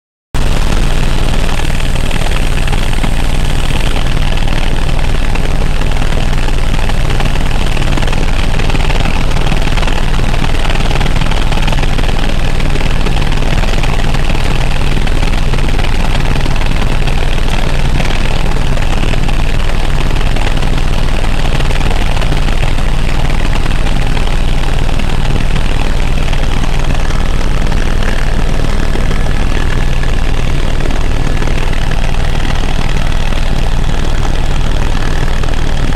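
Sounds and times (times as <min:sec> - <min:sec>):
helicopter cabin drone: 0:00.4 - 0:35.9.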